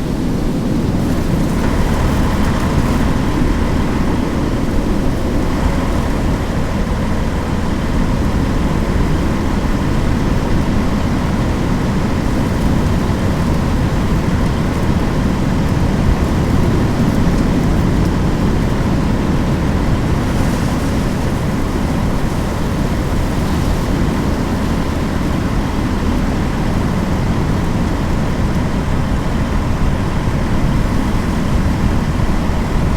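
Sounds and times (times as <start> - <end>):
car road and engine noise: 0.0 - 32.9.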